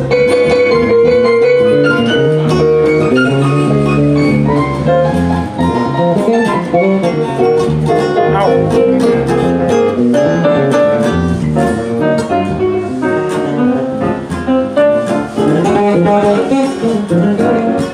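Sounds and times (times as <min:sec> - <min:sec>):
electric bass guitar: 0:00.0 - 0:17.9
stage keyboard: 0:00.0 - 0:17.9
strummed acoustic guitar: 0:00.0 - 0:17.9.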